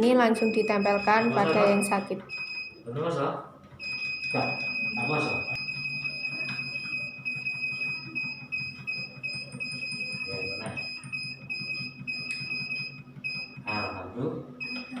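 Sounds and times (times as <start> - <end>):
massager high-pitched whine: 0.3 - 15.0.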